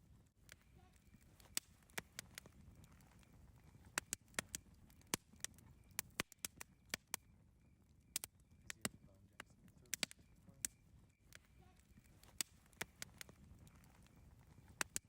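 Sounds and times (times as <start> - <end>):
fire low rumble: 0.0 - 15.0
campfire pops and snaps: 0.1 - 15.0.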